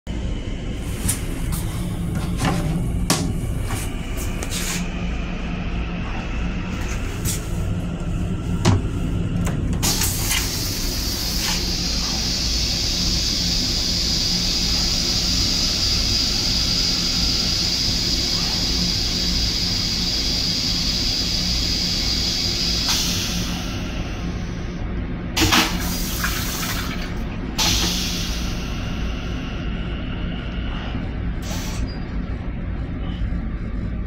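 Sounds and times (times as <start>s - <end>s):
railcar hum and rumble: 0.1s - 34.0s.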